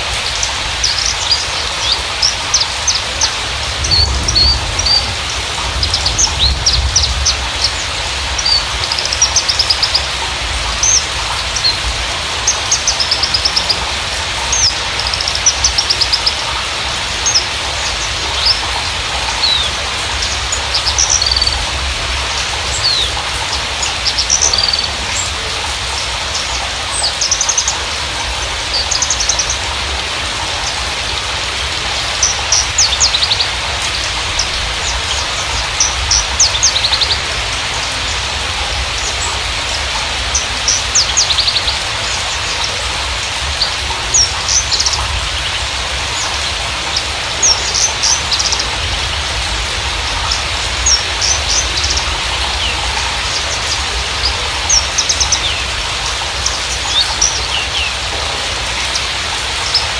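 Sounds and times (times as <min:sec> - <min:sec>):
bird chirping and trilling: 0:00.0 - 0:59.9
steady hiss: 0:00.0 - 0:59.9.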